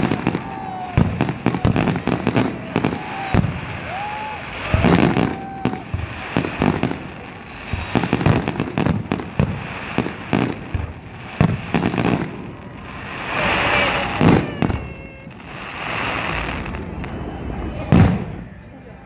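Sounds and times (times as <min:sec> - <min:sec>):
fireworks bursting: 0:00.0 - 0:19.0
rushing firework noise: 0:00.0 - 0:19.0.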